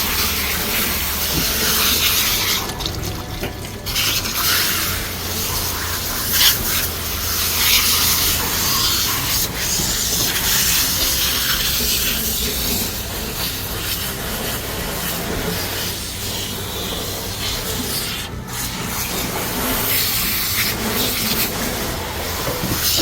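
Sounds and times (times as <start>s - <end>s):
water splashes: 0.0s - 23.0s
water spraying hiss: 0.0s - 23.0s.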